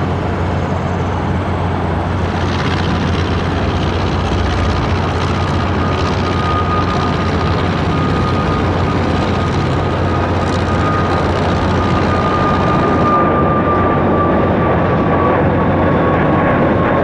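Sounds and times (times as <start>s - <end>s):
jet engines at take-off power: 0.0s - 17.0s.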